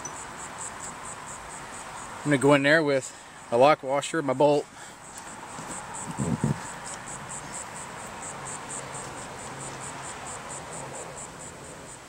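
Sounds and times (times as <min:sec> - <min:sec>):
insect chirping: 0:00.0 - 0:12.0
steady background hiss: 0:00.0 - 0:12.0.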